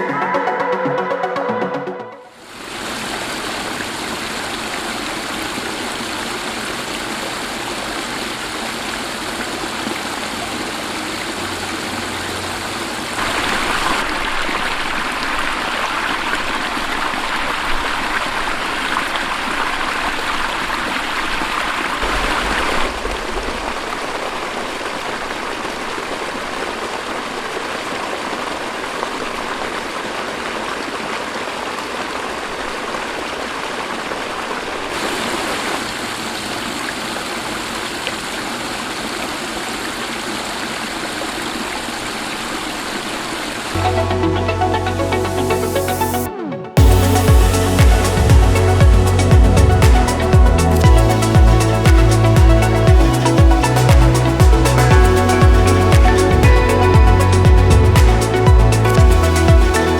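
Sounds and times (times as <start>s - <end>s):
waterfall splashing into gravel: 2.4s - 43.8s, 46.8s - 59.9s.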